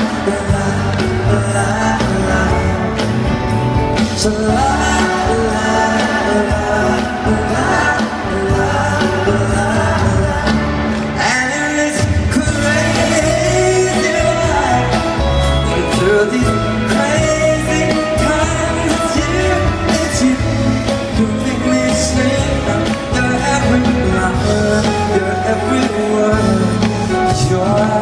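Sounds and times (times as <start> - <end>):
live pop band playing: 0.0 - 28.0
person singing: 0.0 - 28.0.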